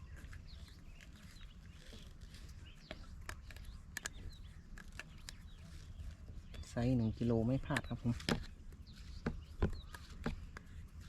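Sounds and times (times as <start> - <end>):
bird-like chirps: 0.0 - 11.0.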